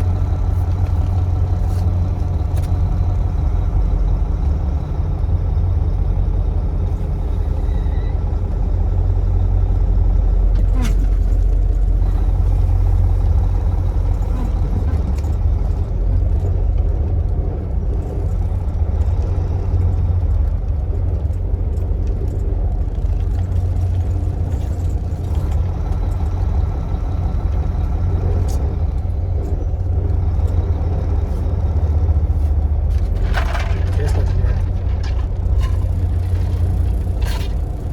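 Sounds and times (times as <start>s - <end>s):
diesel truck engine droning: 0.0s - 37.9s.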